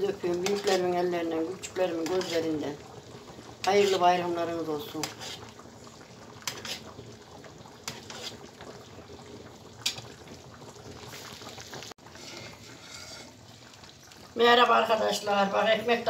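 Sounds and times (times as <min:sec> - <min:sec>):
syrup trickling and bubbling: 0:00.0 - 0:16.0.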